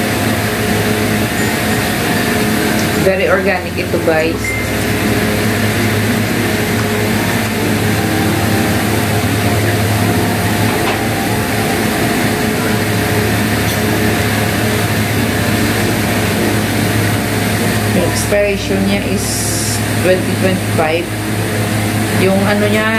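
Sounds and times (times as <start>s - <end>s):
electric fan humming: 0.0s - 22.9s.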